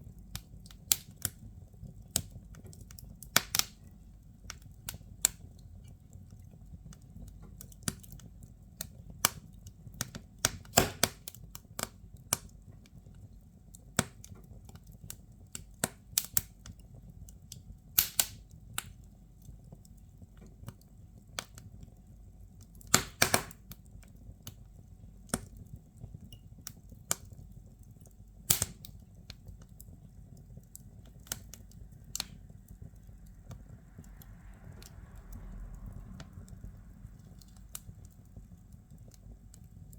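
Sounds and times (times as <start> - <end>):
fire low rumble: 0.0 - 39.9
firewood crackling and popping: 0.0 - 39.9.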